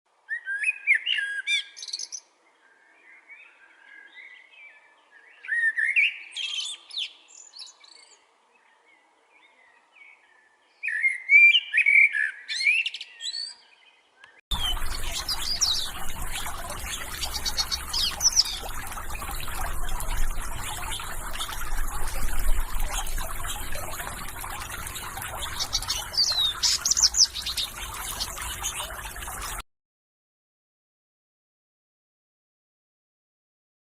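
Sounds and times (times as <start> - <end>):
songbirds chirping: 0.4 - 29.6.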